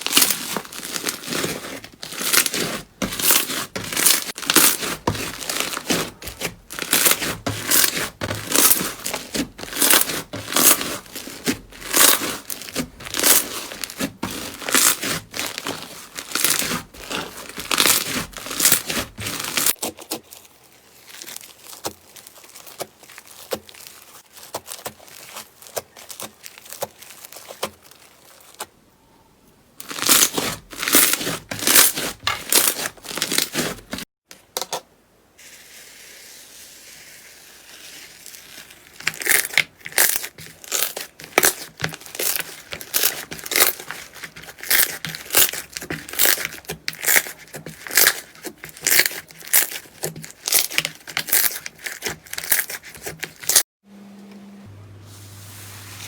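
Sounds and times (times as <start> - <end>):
slime crackling and popping: 0.0 - 28.7, 29.8 - 33.6, 38.4 - 53.6.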